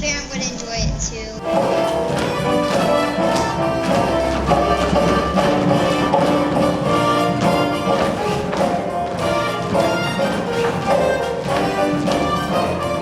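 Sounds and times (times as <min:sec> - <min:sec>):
instrumental musical-theatre music: 0:00.2 - 0:13.0.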